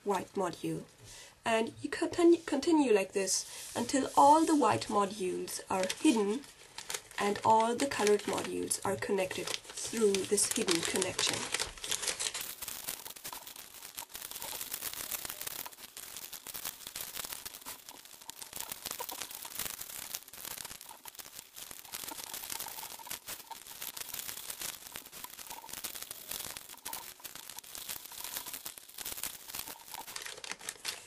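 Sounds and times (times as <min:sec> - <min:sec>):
paper rustling and crinkling: 0:05.7 - 0:31.0.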